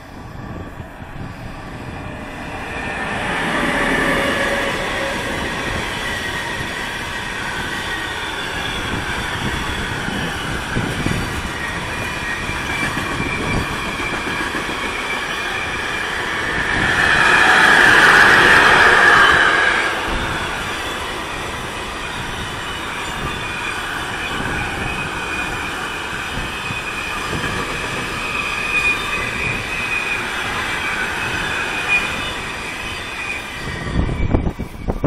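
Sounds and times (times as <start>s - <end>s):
train wheels rumbling on rails: 0.0s - 35.0s
high-pitched wheel squeal: 0.1s - 35.0s.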